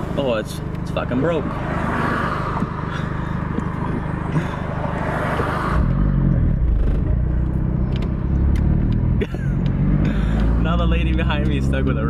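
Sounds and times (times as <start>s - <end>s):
car engine idling: 0.0s - 12.0s
traffic: 0.0s - 12.0s.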